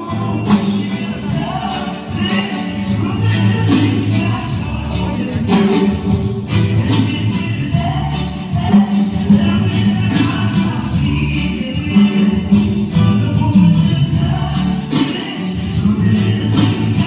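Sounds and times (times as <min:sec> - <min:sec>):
loud music with heavy bass: 0:00.0 - 0:17.0.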